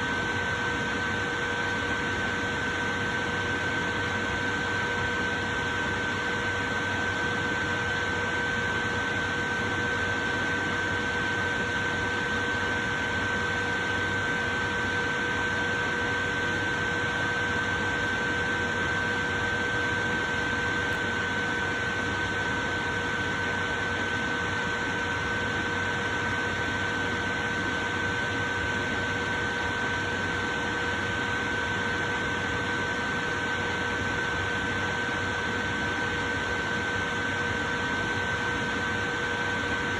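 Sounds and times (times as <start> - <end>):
fan motor whine: 0.0 - 39.9.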